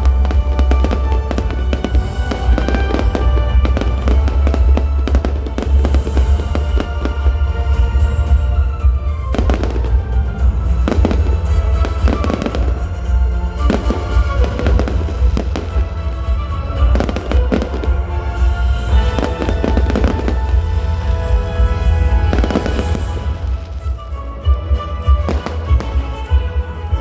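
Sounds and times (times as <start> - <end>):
fireworks bangs and crackling: 0.0 - 27.0
loud show music: 0.0 - 27.0
low booming: 0.0 - 27.0.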